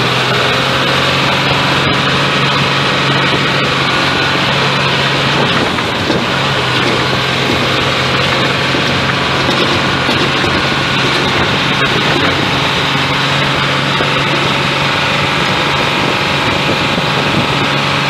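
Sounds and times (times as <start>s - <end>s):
loud rushing noise: 0.0s - 18.0s
truck engine hum: 0.0s - 18.0s.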